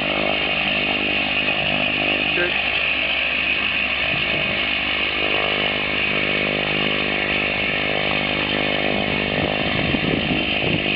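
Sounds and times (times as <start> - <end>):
light aircraft engine droning: 0.0 - 10.9.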